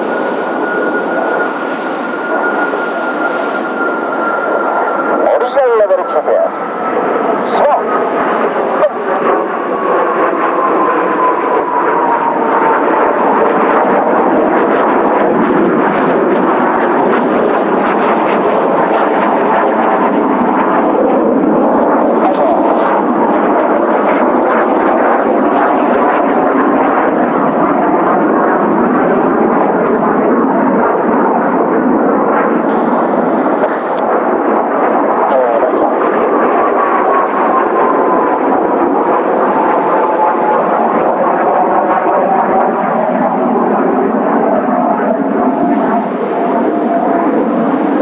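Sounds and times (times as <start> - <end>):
jet whine falling in pitch: 0.0 - 24.4, 30.6 - 48.0
jet engines flying over: 0.0 - 48.0.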